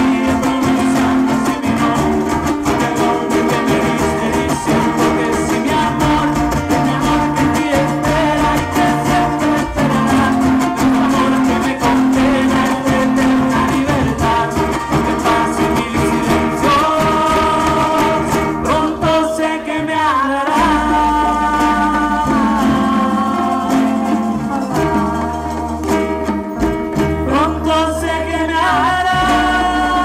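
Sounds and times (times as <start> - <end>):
guitar: 0.0 - 30.0
person singing: 0.0 - 30.0.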